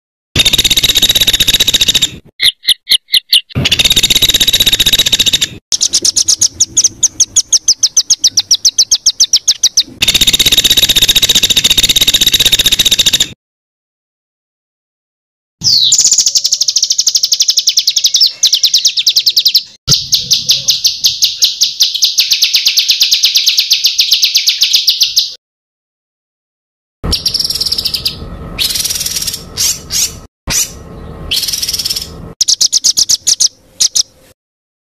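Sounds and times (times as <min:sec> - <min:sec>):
songbird trilling: 0:00.4 - 0:13.3, 0:15.6 - 0:25.4, 0:27.1 - 0:34.2.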